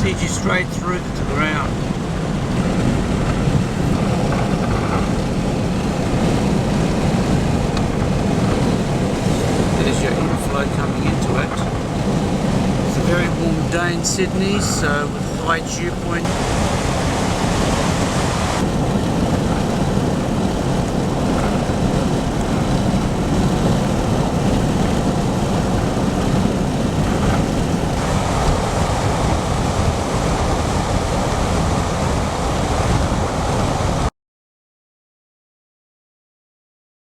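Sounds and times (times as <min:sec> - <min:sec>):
rushing noise with low rumble: 0:00.0 - 0:34.1.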